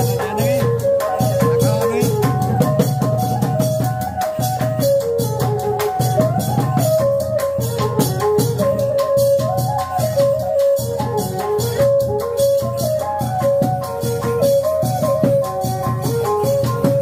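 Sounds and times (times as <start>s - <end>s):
drums beating steady rhythm: 0.0s - 17.0s
rattling percussion: 0.0s - 17.0s.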